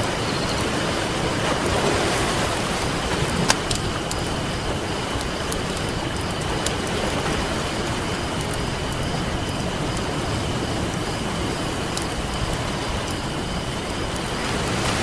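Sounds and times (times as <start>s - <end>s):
ocean surf: 0.0s - 15.0s
campfire crackling and popping: 0.9s - 14.8s.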